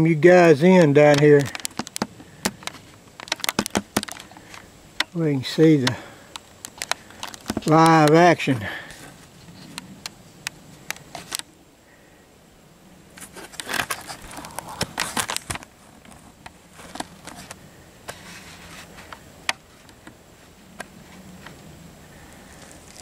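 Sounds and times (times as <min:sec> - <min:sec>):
crackly rustling and handling: 0:00.0 - 0:11.5, 0:13.1 - 0:23.0.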